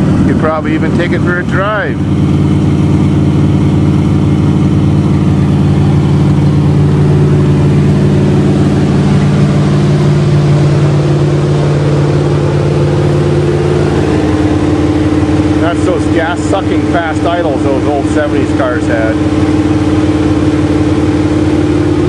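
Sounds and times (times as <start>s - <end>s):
car engine fast idle: 0.0s - 22.0s.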